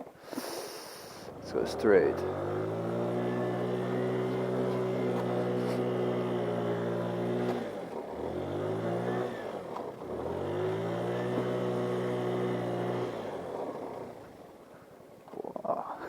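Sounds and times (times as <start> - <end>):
scooter engine revving: 1.2 - 14.5.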